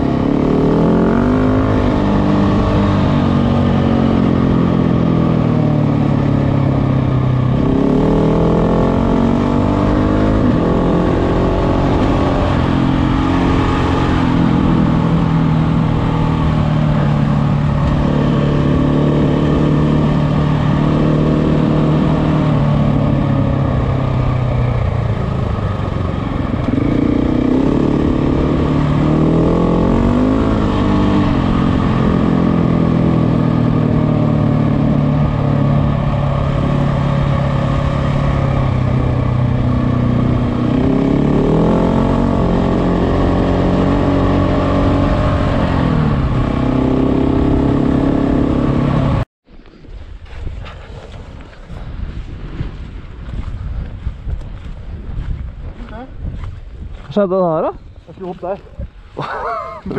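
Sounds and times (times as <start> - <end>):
motorcycle engine running: 0.0 - 49.3, 52.0 - 59.9.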